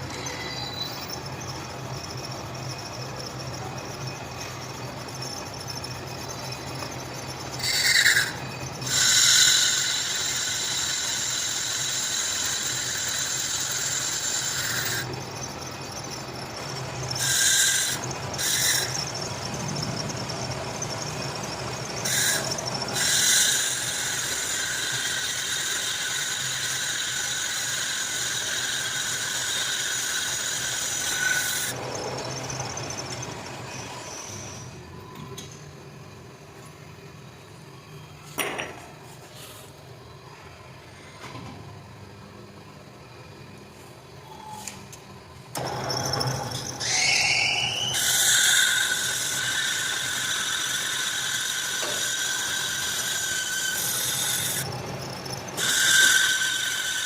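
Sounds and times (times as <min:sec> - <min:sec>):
cutting tool squealing against metal: 0:00.0 - 0:35.6, 0:44.2 - 0:44.8, 0:45.6 - 0:57.0.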